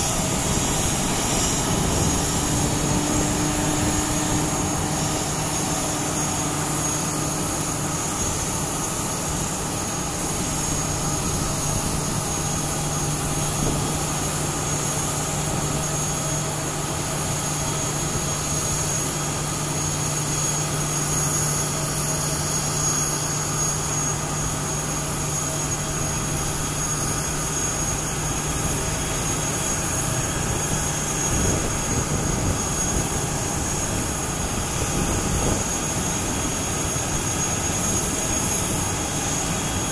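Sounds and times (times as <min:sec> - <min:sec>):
jet turbine whine: 0:00.0 - 0:39.9.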